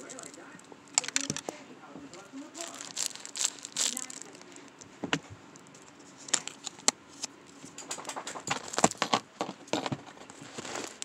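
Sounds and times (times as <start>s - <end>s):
plastic bag crinkling and clicking: 0.0s - 11.0s.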